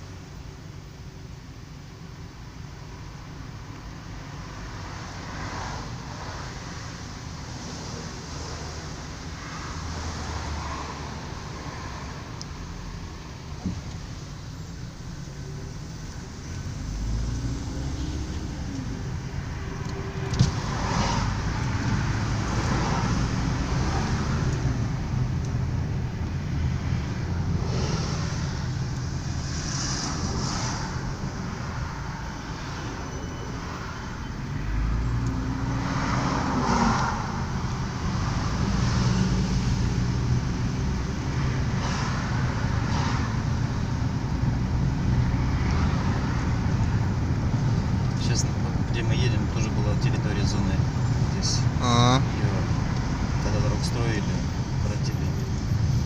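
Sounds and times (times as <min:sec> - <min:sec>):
car engine: 0:00.0 - 0:56.0
tyre noise on road: 0:02.9 - 0:56.0.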